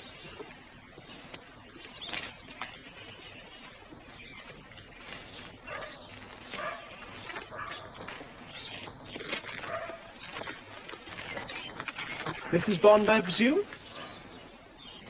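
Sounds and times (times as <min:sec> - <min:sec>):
birds chirping: 0:00.0 - 0:15.0
faint steady background hiss: 0:00.0 - 0:15.0.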